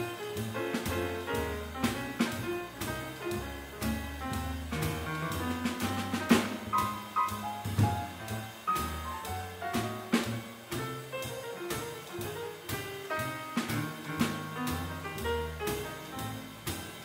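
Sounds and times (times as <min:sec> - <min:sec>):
drum kit beat: 0:00.0 - 0:17.0
piano: 0:00.0 - 0:17.0
plucked double bass: 0:00.0 - 0:17.0.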